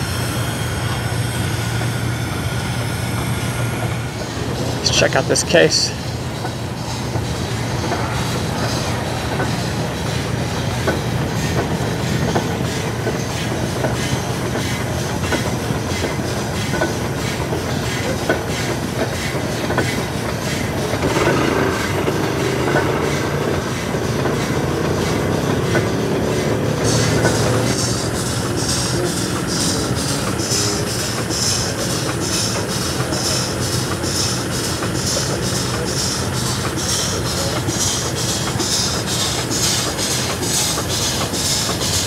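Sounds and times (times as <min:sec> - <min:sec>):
steam engine low hum: 0:00.0 - 0:42.0
steam exhaust chuffing: 0:00.0 - 0:42.0.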